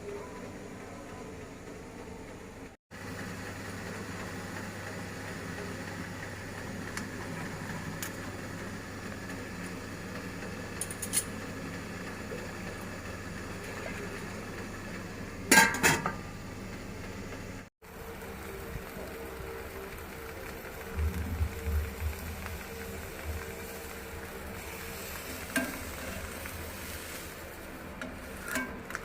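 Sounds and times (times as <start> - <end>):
steady low hum: 3.9 - 29.0.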